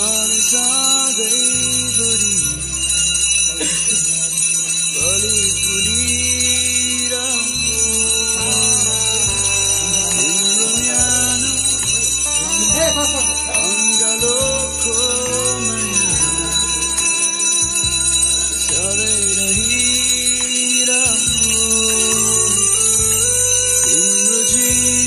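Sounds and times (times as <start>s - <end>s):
bells ringing: 0.0s - 25.0s
wavering melody over low drone: 4.9s - 25.0s.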